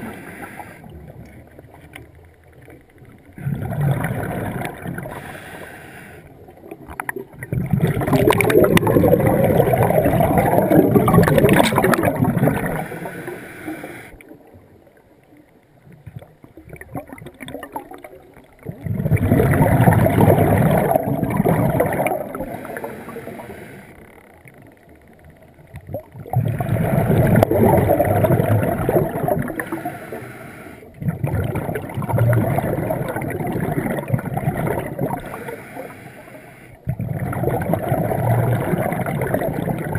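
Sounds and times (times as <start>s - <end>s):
underwater bubbling from regulator: 0.0s - 39.9s.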